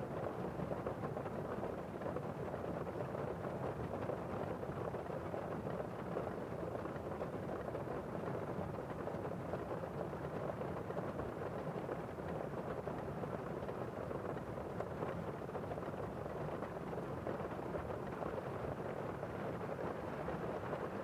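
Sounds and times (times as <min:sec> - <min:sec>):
muffled steady rain: 0:00.1 - 0:21.0.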